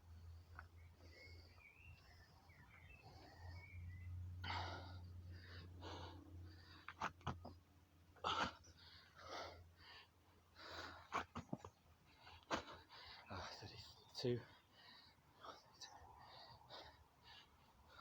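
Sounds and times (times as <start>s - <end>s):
man breathing heavily: 0.0s - 18.0s.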